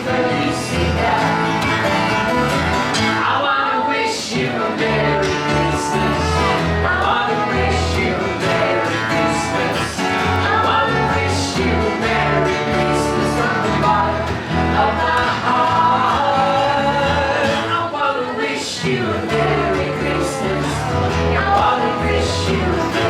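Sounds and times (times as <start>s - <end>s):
steady bass line: 0.0s - 3.2s, 4.8s - 17.7s, 19.2s - 23.0s
plucked acoustic guitar: 0.0s - 23.0s
person singing: 3.2s - 23.0s.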